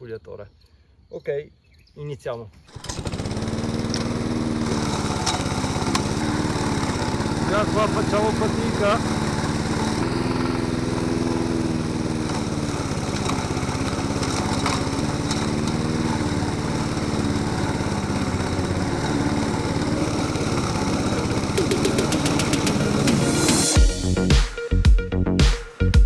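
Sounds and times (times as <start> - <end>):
lawn mower labouring: 2.7 - 23.8.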